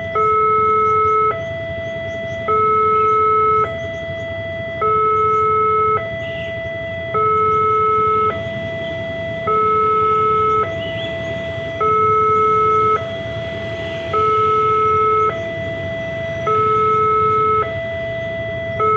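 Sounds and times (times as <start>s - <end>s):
level crossing two-tone alarm: 0.0s - 18.9s.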